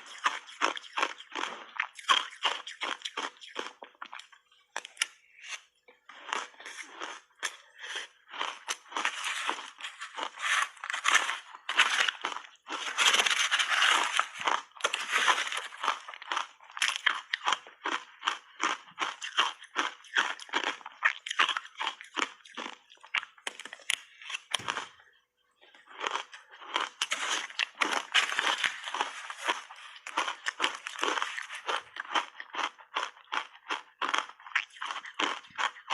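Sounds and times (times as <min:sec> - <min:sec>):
shaved ice being chewed: 0:00.0 - 0:25.0, 0:25.7 - 0:35.9.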